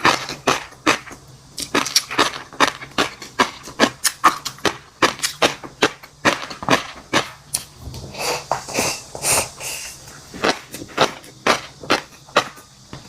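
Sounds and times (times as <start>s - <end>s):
crunchy chewing: 0.0s - 12.7s.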